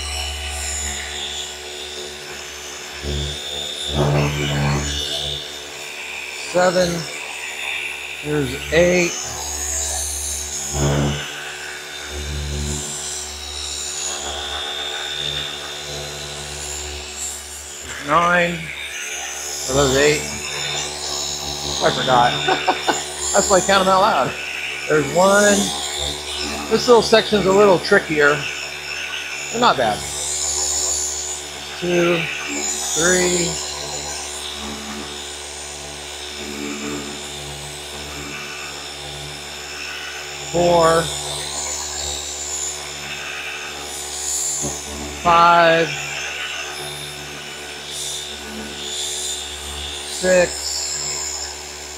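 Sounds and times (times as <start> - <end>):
polisher motor whine: 0.0 - 51.9.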